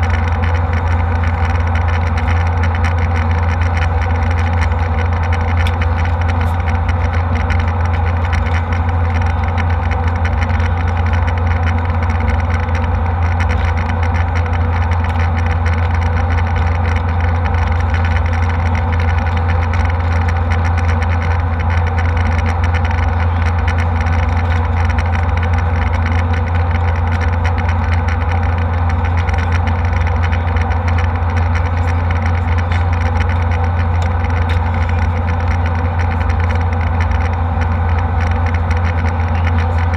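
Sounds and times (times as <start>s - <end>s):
jet airliner cabin drone: 0.0s - 39.9s.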